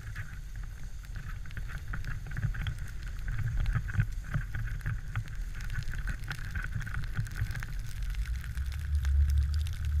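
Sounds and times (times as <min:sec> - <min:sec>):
small clicks: 0:00.0 - 0:10.0
wind rumbling on microphone: 0:00.0 - 0:10.0.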